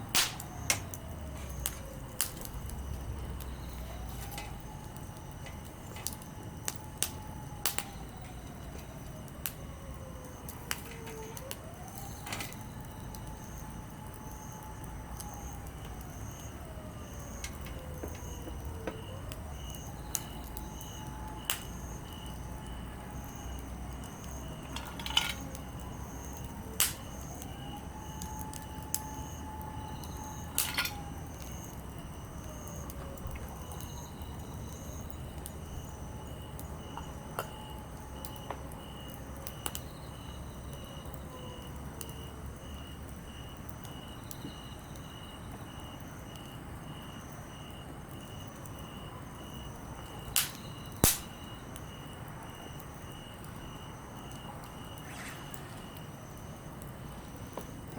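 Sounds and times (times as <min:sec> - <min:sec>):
campfire crackling and popping: 0:00.0 - 0:57.9
faint whistle: 0:02.6 - 0:04.7, 0:11.9 - 0:56.6.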